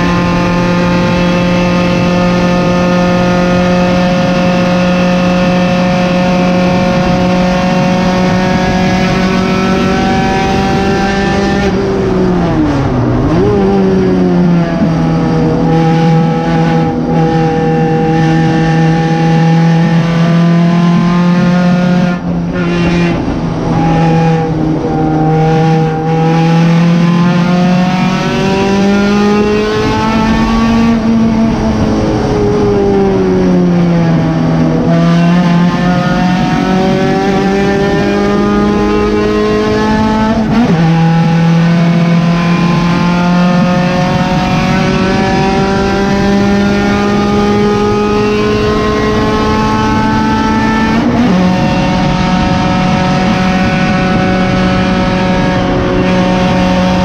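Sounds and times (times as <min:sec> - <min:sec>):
car engine revving at racing speed: 0:00.0 - 0:57.0.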